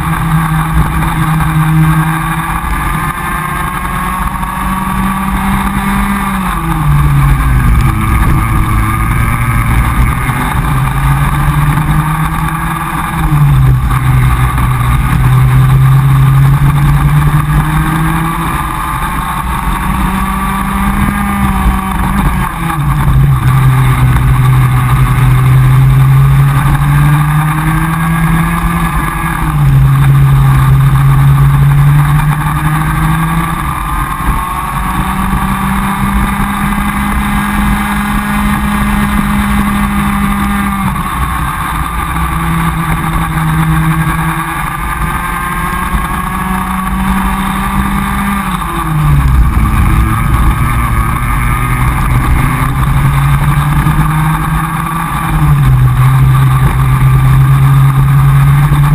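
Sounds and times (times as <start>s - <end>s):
kart engine at high revs: 0.0s - 58.9s.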